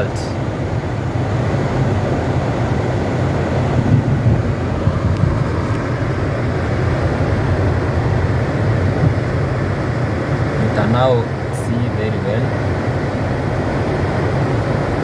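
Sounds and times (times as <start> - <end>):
air-conditioning fan blowing: 0.0 - 15.0
car cabin road and engine rumble: 0.0 - 15.0.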